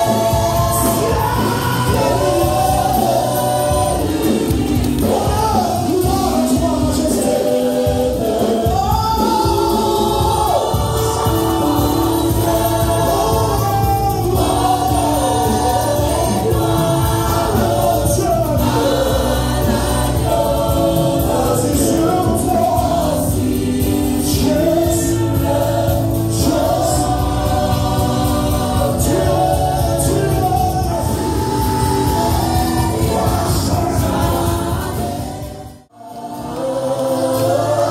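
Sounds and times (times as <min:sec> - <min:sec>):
band with bass and drums: 0:00.0 - 0:37.9
gospel choir singing: 0:00.0 - 0:37.9.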